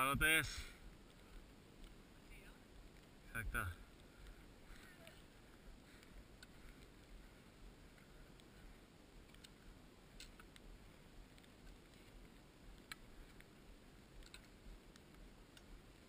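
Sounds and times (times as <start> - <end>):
faint low rumble: 0.0 - 16.0
faint clicks: 0.9 - 3.2, 3.8 - 16.0.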